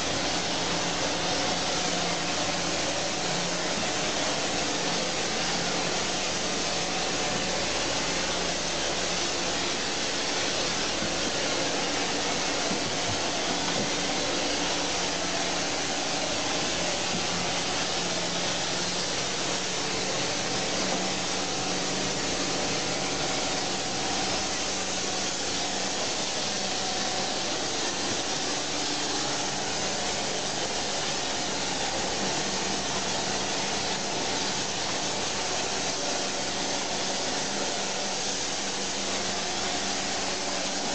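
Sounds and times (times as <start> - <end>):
pressure sprayer hissing: 0.0 - 40.9.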